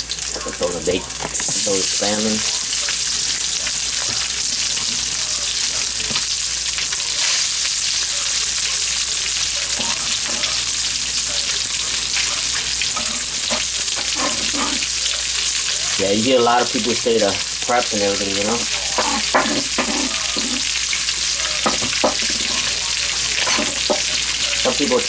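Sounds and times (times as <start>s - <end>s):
bacon sizzling in a pan: 0.0s - 25.0s.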